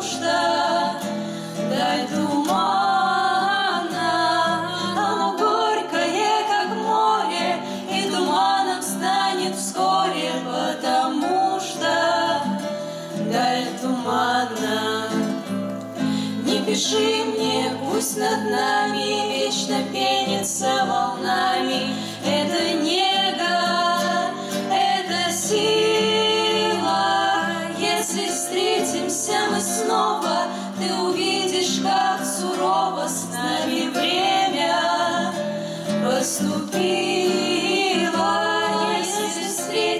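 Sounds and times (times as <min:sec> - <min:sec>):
acoustic guitar: 0:00.0 - 0:39.9
women singing together: 0:00.0 - 0:39.9.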